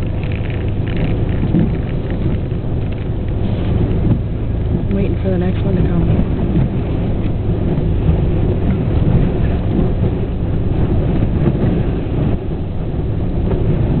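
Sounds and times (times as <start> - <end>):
rain: 0.0 - 14.0
storm wind gusting: 0.0 - 14.0.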